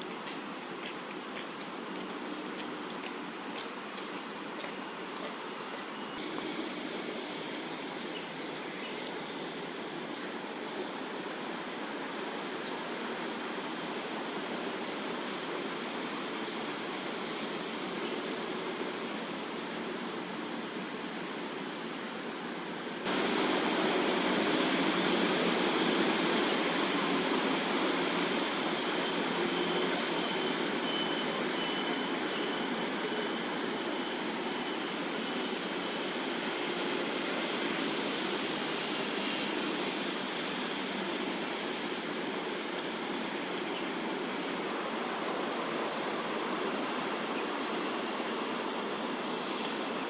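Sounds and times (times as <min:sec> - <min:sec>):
steady rushing roar: 0:06.2 - 0:50.0.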